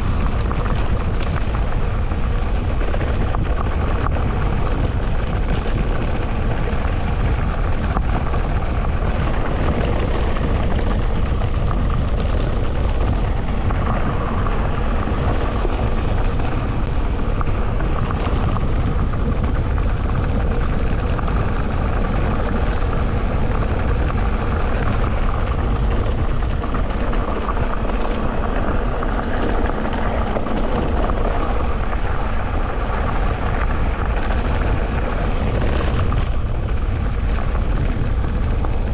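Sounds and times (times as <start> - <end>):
bike tyres rumbling on dirt: 0.0 - 38.9
faint steady hum: 0.0 - 38.9.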